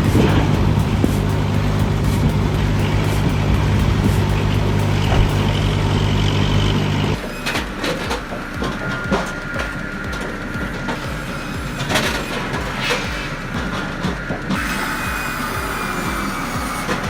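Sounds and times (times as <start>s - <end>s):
engine droning: 0.0s - 17.0s
mechanical clanking and knocks: 0.0s - 17.0s
thin steady whine: 0.0s - 17.0s.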